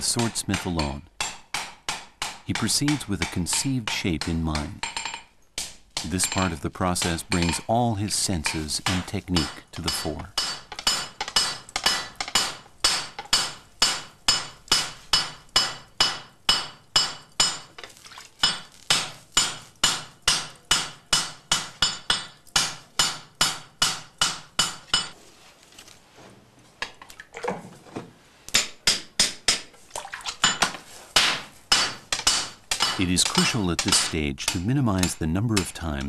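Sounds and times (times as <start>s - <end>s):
hammer striking steel on anvil: 0.1s - 7.8s, 8.4s - 17.7s, 18.4s - 25.2s, 30.4s - 35.8s.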